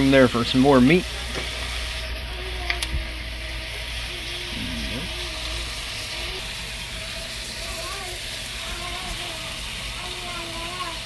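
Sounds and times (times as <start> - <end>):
meat and vegetables sizzling in skillet: 0.0 - 11.0.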